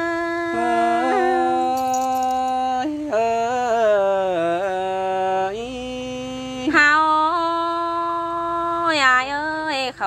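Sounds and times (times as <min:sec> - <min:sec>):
man and woman folk singing: 0:00.0 - 0:09.6.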